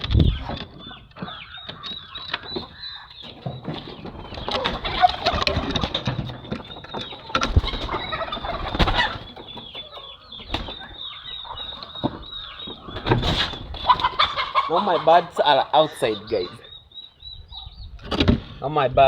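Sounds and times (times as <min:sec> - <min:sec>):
chickens peeping and clucking: 0:00.0 - 0:19.0.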